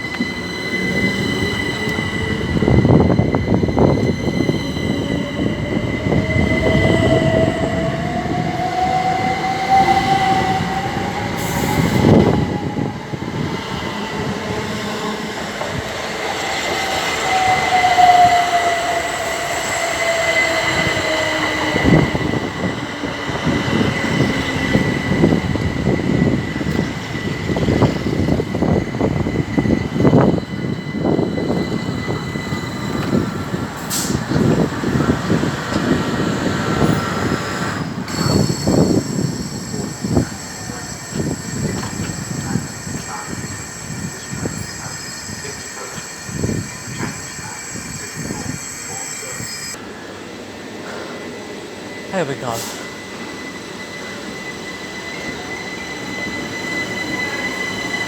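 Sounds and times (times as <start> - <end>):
train traction motors whining: 0.0 - 58.0
train wheels rumbling: 0.0 - 58.0.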